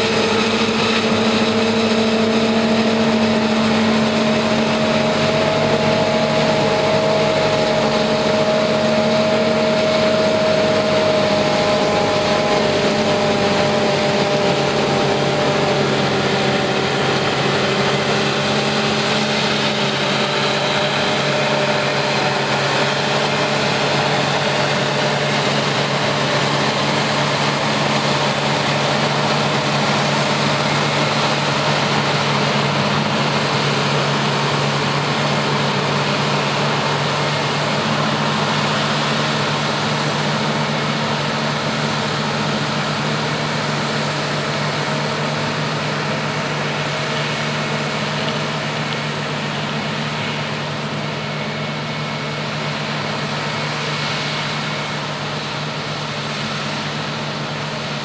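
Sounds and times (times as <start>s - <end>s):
dense hiss of blowing silage: 0.0s - 58.0s
forage harvester engine drone: 0.0s - 58.0s.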